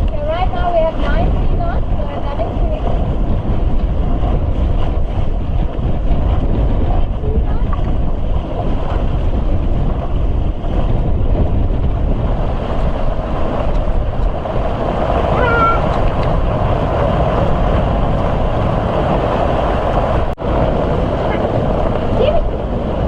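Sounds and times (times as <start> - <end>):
rushing water: 0.0 - 23.0
wind buffeting microphone: 0.0 - 23.0.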